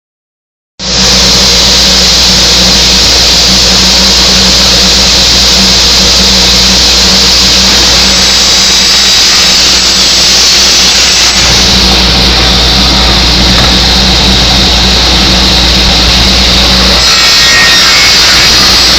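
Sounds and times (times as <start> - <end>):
circular saw running: 0.8 - 18.9.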